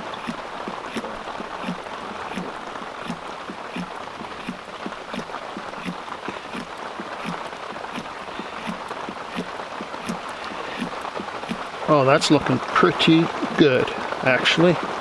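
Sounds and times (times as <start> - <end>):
manual espresso maker pumping: 0.0 - 15.0
steady hiss: 0.0 - 15.0.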